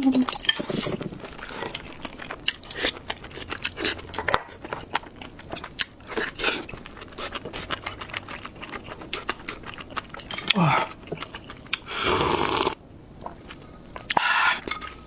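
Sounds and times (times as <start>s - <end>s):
person chewing: 0.3s - 12.8s.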